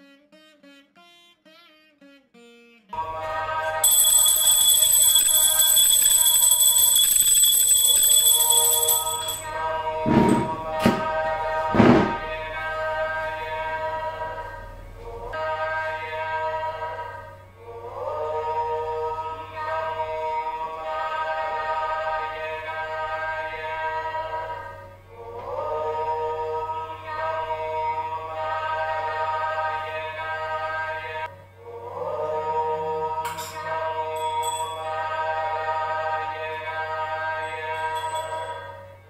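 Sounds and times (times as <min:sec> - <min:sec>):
voices singing devotional song: 0:03.0 - 0:39.0.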